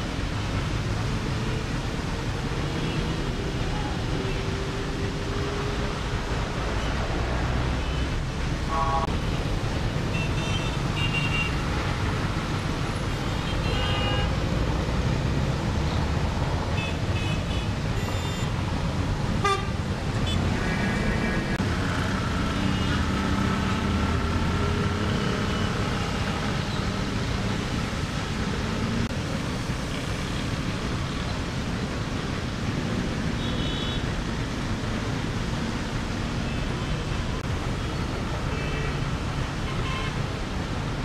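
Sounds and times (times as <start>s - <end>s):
heavy road traffic rumble: 0.0s - 41.0s.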